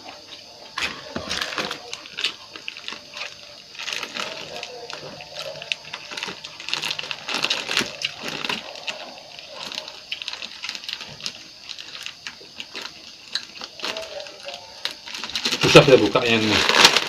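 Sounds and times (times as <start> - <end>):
person chewing food: 0.0 - 15.5.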